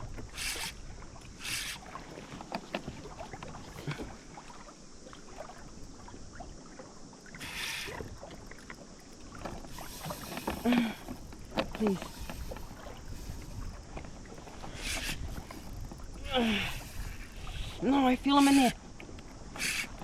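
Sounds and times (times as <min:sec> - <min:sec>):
water drips and ticks: 0:00.0 - 0:20.0
water splashing around kayak: 0:00.0 - 0:20.0.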